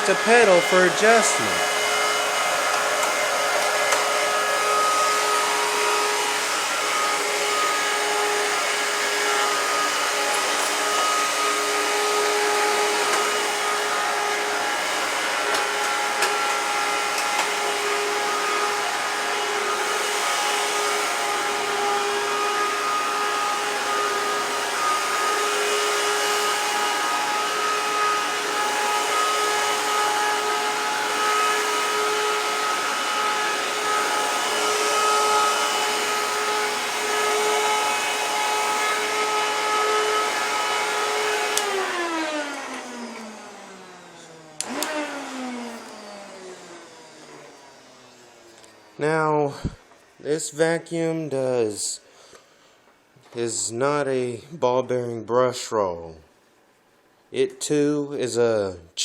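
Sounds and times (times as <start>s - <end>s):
vacuum cleaner running: 0.0s - 54.1s.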